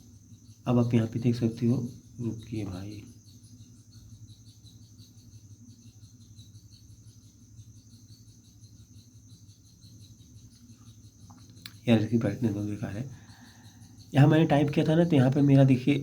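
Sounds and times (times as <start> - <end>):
faint crickets chirping: 0.0 - 16.0.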